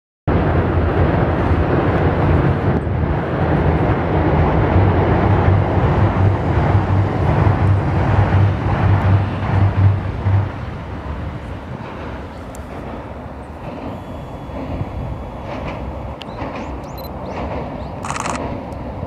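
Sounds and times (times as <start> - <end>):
road traffic: 0.3 - 19.0
wind on microphone: 0.3 - 19.0.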